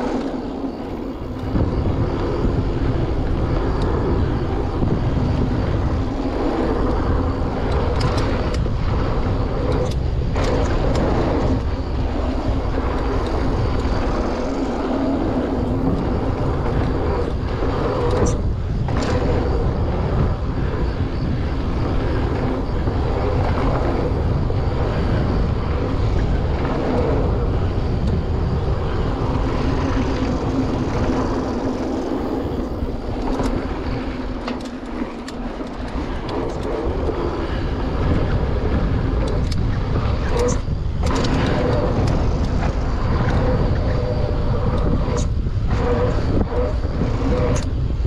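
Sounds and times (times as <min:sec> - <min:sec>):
bike clicks and rattles: 0:00.0 - 0:48.0
tyres rumbling on gravel: 0:00.0 - 0:48.0
wind on camera: 0:00.0 - 0:48.0.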